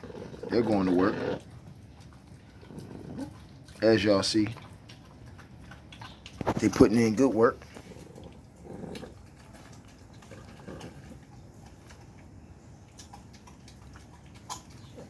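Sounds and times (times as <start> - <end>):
puppies chewing meat: 0.0 - 15.0.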